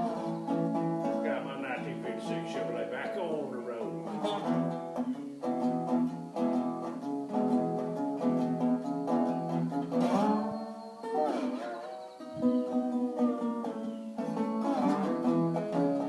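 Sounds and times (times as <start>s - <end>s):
resonator guitar picked notes: 0.0s - 16.0s.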